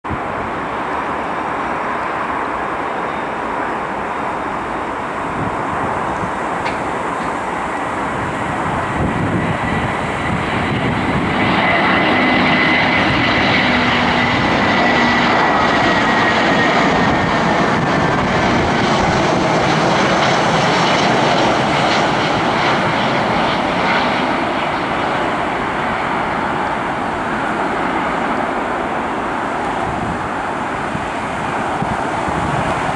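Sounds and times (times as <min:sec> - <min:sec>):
jet engines passing: 0:00.0 - 0:32.9.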